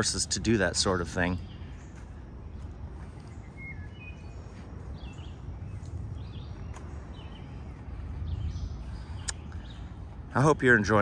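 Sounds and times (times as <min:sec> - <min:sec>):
birds chirping: 0:00.0 - 0:11.0
footsteps on paved path: 0:00.0 - 0:11.0
steady low rumble: 0:00.0 - 0:11.0.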